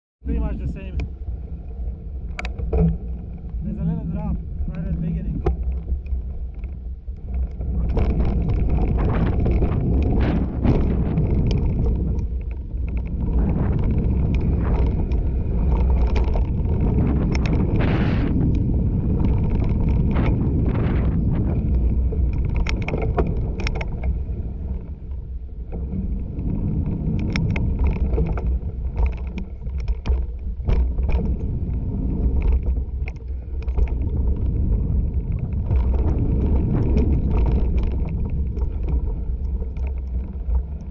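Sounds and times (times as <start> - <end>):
wind buffeting microphone: 0.2 - 40.9
bike tyres rumbling on dirt: 0.3 - 40.9
bike rattling and knocking: 2.3 - 25.2, 26.7 - 40.9.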